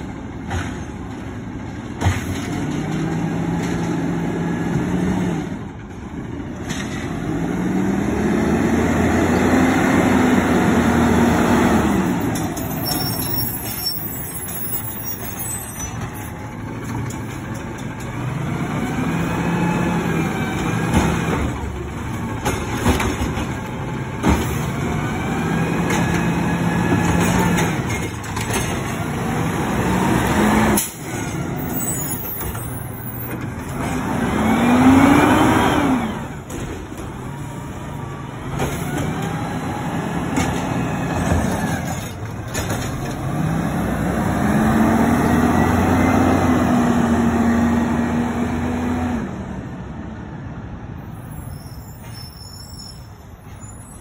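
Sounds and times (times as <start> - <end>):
diesel engine revving: 0.1 - 50.4.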